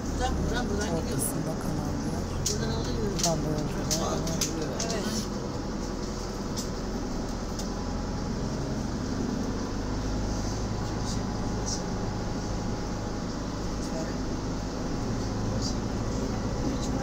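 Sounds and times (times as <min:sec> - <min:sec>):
minibus engine and road noise: 0:00.0 - 0:17.0.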